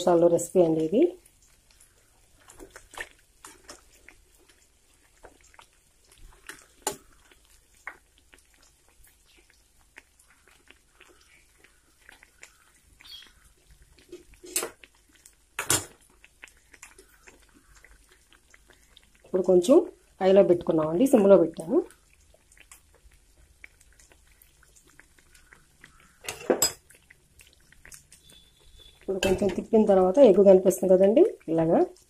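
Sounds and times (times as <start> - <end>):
oil crackling and popping: 0.0 - 32.0.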